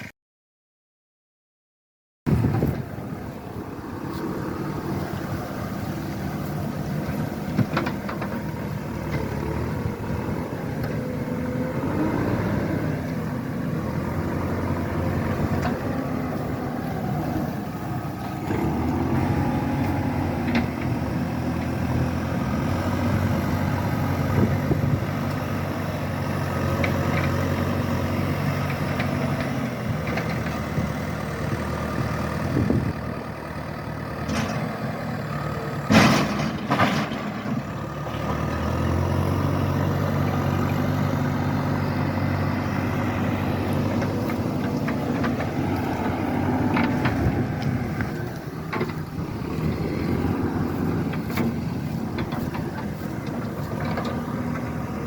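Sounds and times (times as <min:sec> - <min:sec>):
engine running steadily: 0:02.3 - 0:55.0.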